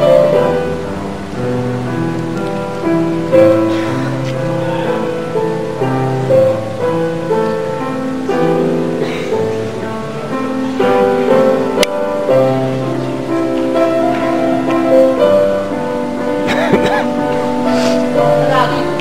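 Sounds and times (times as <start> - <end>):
grand piano melody: 0.0 - 19.0.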